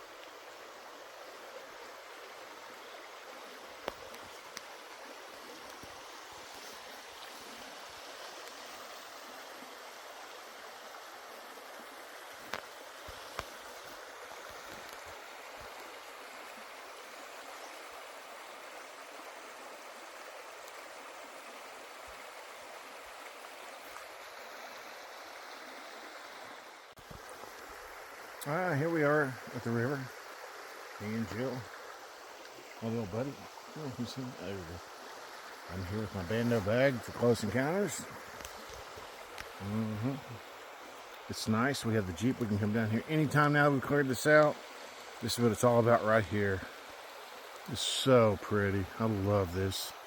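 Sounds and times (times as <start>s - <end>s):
river water running: 0.0s - 50.0s.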